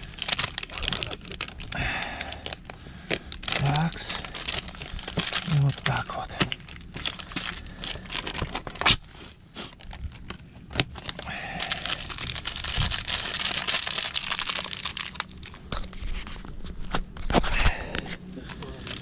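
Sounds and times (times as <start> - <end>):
plastic packet crinkling: 0.0 - 16.2.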